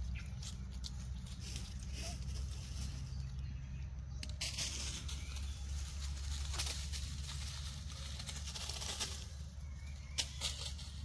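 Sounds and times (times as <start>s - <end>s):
leaves crunching underfoot: 0.0s - 11.0s.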